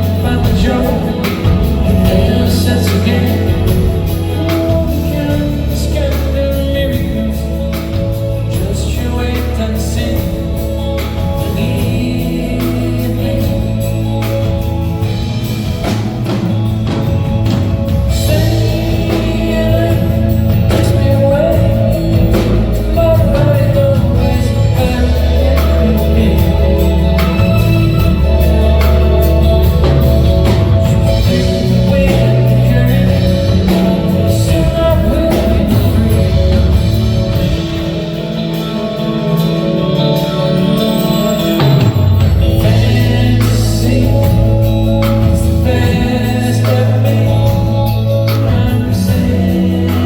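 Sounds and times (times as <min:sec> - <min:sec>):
bass notes: 0:00.0 - 0:50.0
person singing: 0:00.0 - 0:50.0
soft rock band playing: 0:00.0 - 0:50.0.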